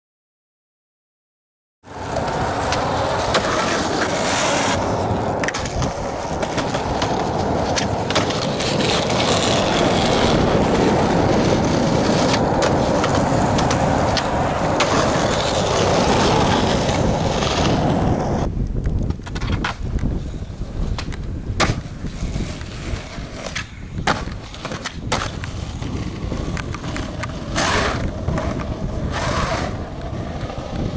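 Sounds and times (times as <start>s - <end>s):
skateboard wheels rolling on asphalt: 1.8s - 30.9s.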